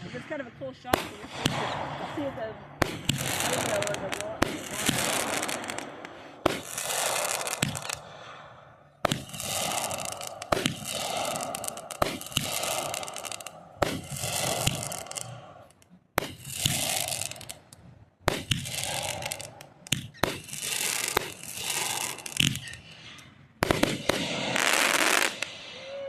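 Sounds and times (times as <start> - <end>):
fireworks crackle: 0.0 - 8.4, 9.0 - 26.0
fireworks bursting with bangs: 0.0 - 26.0.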